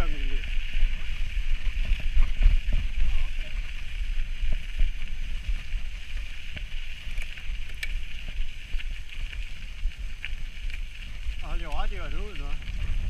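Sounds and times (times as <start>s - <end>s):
bike tyres on gravel: 0.0s - 13.0s
wind buffeting microphone: 0.0s - 13.0s
bike clicks and rattles: 0.1s - 13.0s.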